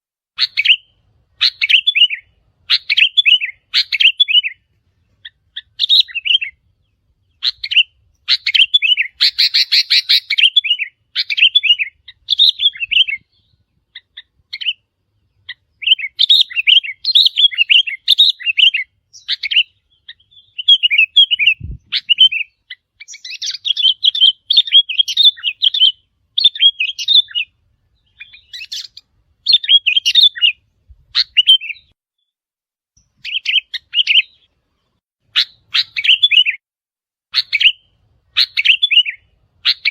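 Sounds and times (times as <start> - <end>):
bird chirping song: 0.4 - 36.6, 37.3 - 39.9.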